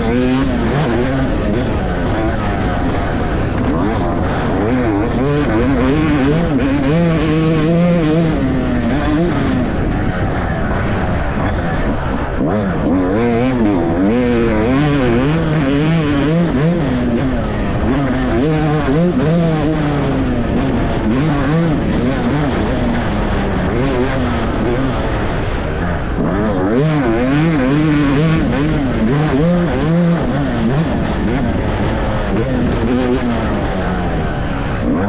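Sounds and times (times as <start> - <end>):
two-stroke dirt bike engine revving: 0.0 - 35.0.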